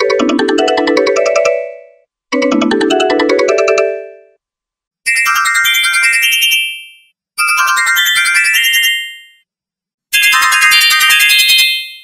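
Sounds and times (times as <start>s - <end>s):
high-pitched phone ringtone melody: 0.0s - 4.4s, 5.1s - 9.4s, 10.2s - 12.0s.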